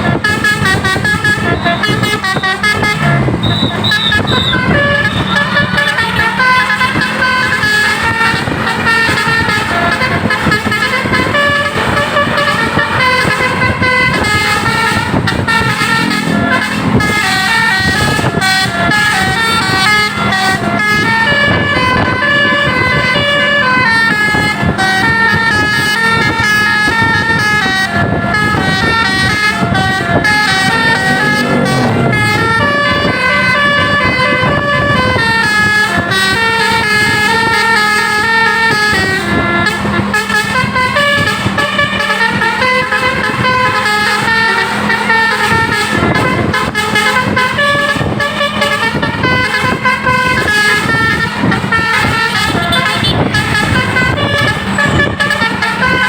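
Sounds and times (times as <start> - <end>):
bus horns playing melody: 0.0 - 56.0.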